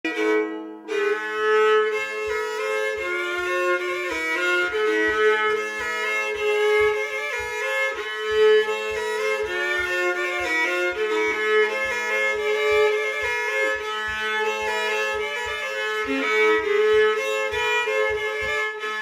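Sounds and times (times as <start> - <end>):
fiddle playing folk dance tune: 0.0 - 19.0
low thumps keeping the beat: 2.2 - 19.0.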